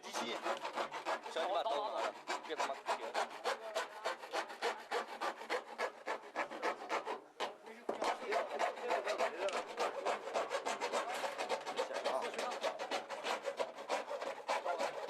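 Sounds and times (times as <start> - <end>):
saw cutting through metal casing: 0.0 - 15.0.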